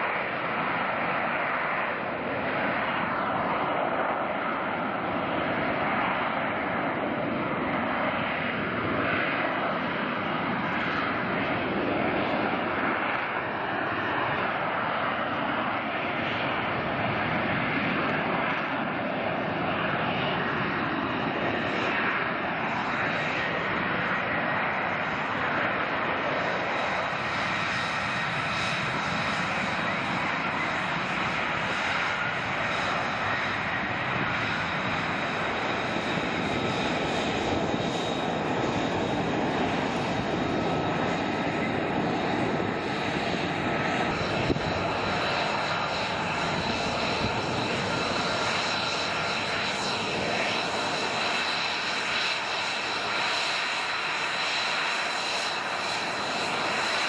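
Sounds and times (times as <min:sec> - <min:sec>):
jet engine roaring with high whine: 0:00.0 - 0:57.0.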